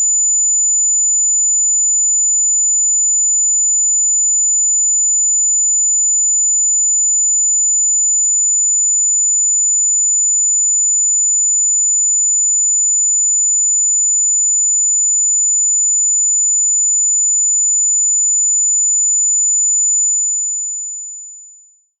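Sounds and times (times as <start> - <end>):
high-pitched sine tone: 0.0 - 22.0.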